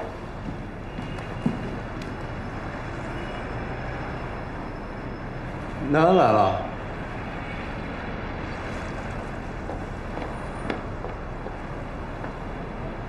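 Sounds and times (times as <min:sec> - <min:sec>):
room ambience: 0:00.0 - 0:13.0.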